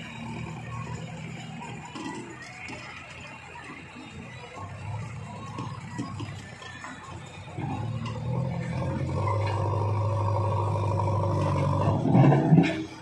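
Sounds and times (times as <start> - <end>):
backhoe diesel engine under load: 0.0 - 13.0.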